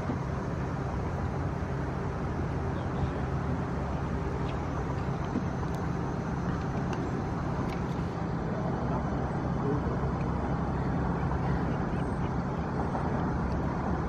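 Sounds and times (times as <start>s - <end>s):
faint hum: 0.0s - 14.0s
outdoor background drone: 0.0s - 14.0s.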